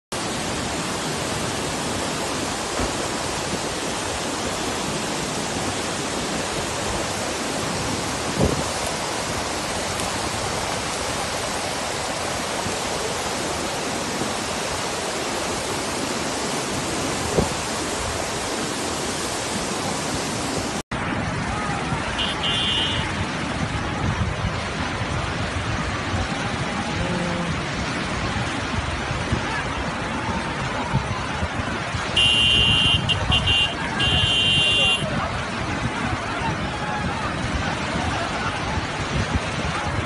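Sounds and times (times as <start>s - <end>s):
floodwater rushing over rocks: 0.1s - 40.0s
rain: 0.1s - 40.0s.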